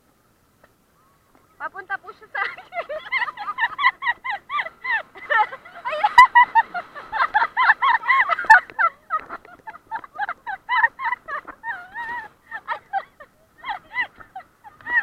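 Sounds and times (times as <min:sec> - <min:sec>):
long wavering bird calls: 0:00.2 - 0:15.0.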